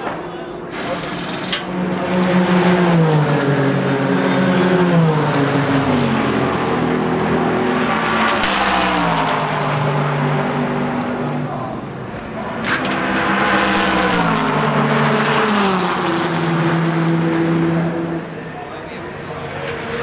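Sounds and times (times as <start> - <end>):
racing car engines passing: 0.0 - 20.0.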